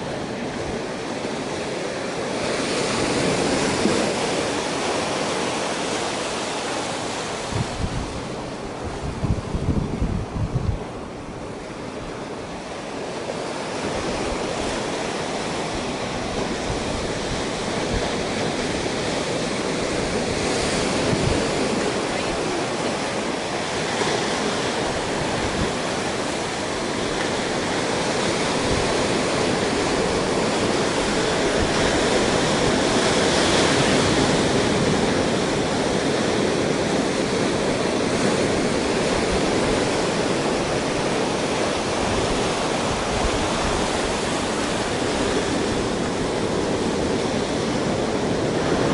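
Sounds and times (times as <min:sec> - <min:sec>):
waves breaking on rocky beach: 0:00.0 - 0:48.9.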